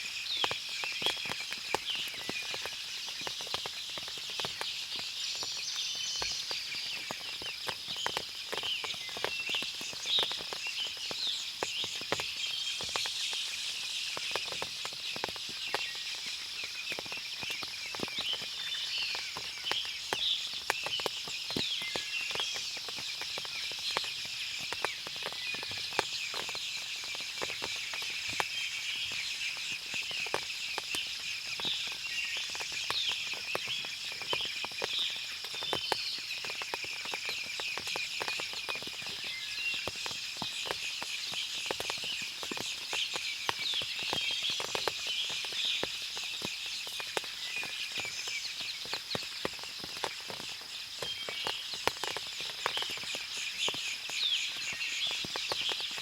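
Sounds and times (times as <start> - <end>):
water dripping from trees: 0.0 - 56.0
birds chirping: 0.1 - 56.0.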